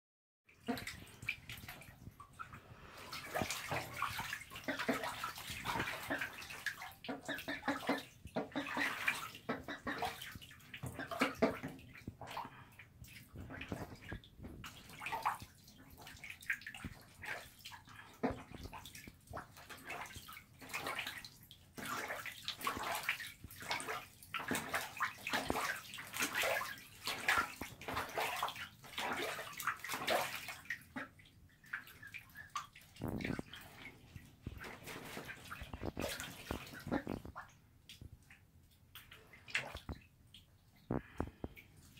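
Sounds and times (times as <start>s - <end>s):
ducks splashing in water: 0.5s - 38.1s, 38.9s - 41.9s.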